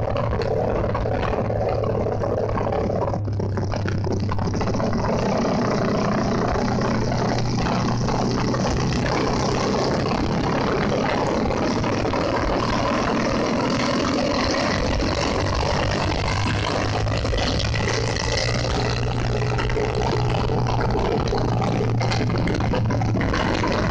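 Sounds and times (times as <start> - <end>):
motorcycle engine hum: 0.0 - 23.9.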